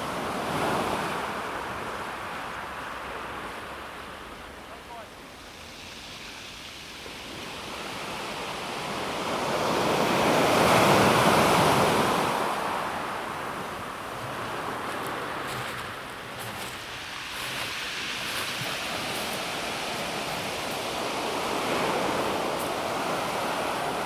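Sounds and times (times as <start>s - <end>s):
waves washing onto pebble beach: 4.7s - 24.0s.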